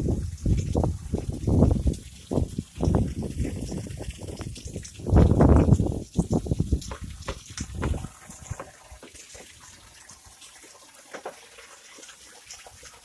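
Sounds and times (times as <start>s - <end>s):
drips and splashes ticking: 0.0s - 13.0s
heavy rain pouring: 0.0s - 13.0s.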